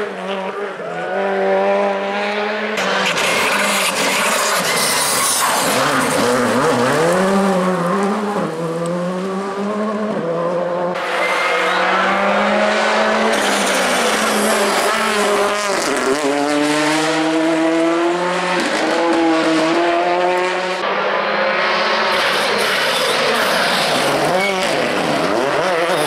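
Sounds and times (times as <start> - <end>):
rally car engine at high revs: 0.0 - 26.0.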